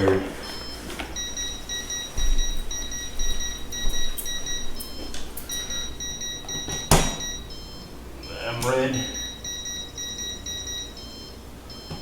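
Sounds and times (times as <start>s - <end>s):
voltage tester beeping: 0.4s - 12.0s.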